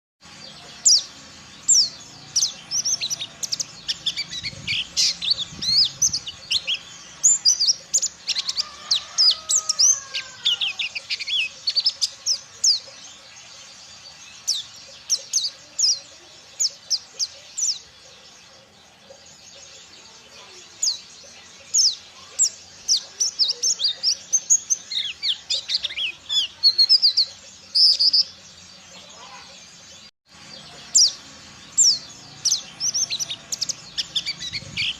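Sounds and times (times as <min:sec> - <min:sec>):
bird twittering high chirps: 0:00.2 - 0:34.9.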